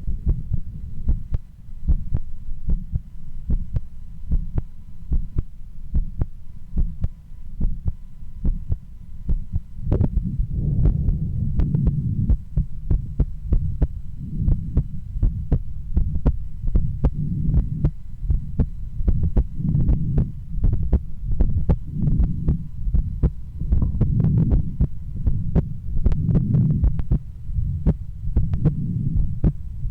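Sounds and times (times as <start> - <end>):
low rumble: 0.0 - 29.9
heartbeat through stethoscope: 0.1 - 29.9.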